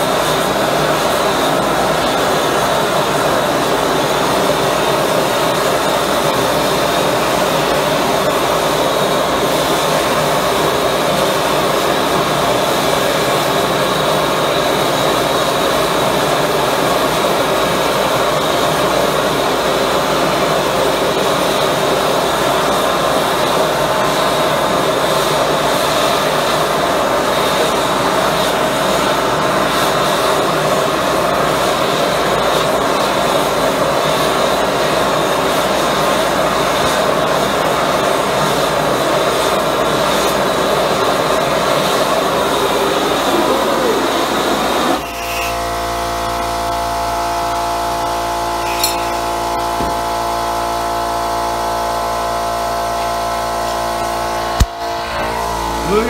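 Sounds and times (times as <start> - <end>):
gas burner roaring: 0.0 - 56.0.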